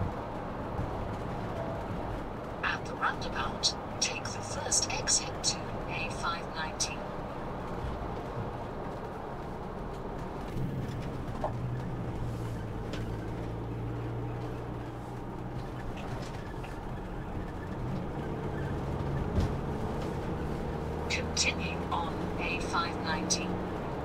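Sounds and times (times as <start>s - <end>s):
road noise: 0.0s - 24.0s
vehicle engine drone: 0.0s - 24.0s.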